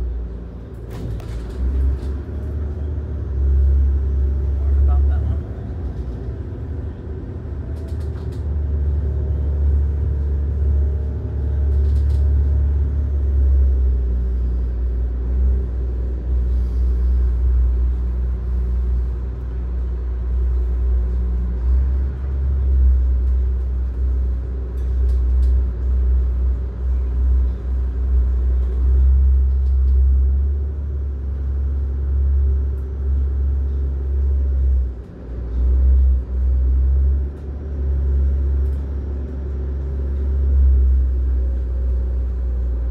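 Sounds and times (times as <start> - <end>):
boat engines low rumble: 0.0 - 42.9.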